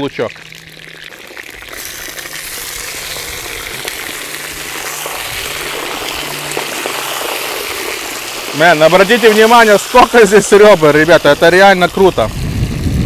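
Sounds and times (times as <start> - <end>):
meat sizzling in a cauldron: 0.0 - 13.0.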